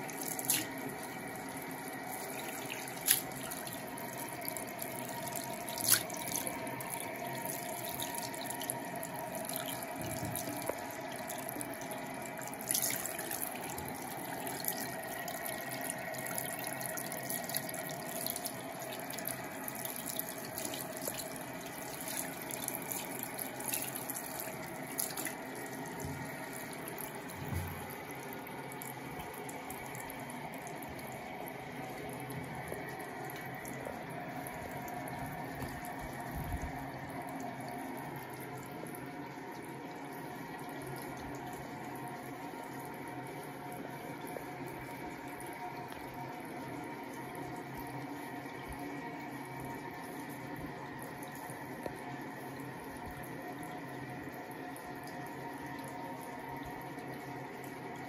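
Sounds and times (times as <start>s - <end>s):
tap water running into basin: 0.0s - 58.0s.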